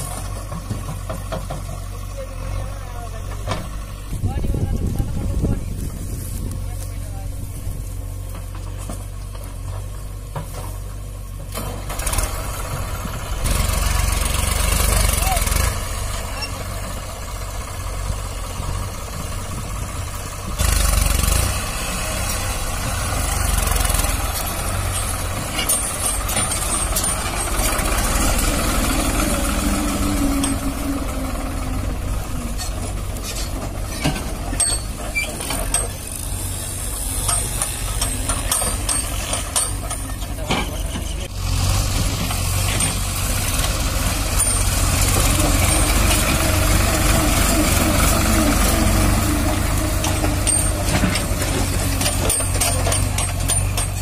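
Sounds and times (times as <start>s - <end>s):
knocks and rattles: 0.0s - 6.6s, 7.4s - 54.0s
tractor diesel engine under load: 0.0s - 54.0s.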